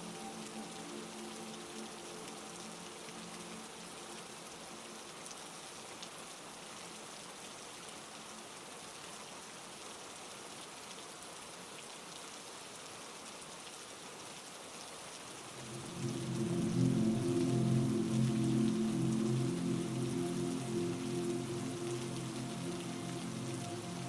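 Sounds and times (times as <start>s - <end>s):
heavy rain falling: 0.0s - 12.7s, 13.3s - 24.0s.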